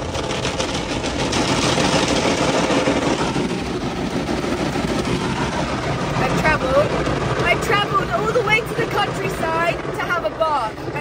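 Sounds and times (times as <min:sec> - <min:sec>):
car wash brushes slapping: 0:00.0 - 0:10.1.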